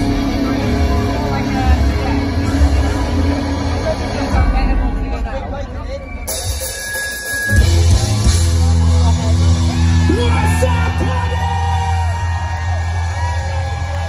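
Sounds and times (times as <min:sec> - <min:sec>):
crowd cheering and yelling: 0:00.0 - 0:14.0
hard rock band playing: 0:00.0 - 0:14.0.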